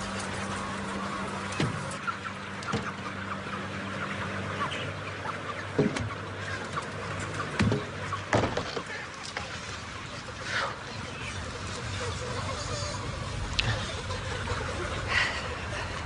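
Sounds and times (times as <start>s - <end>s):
chickens clucking and chirping: 0.0s - 16.0s
steady low hum: 0.0s - 16.0s.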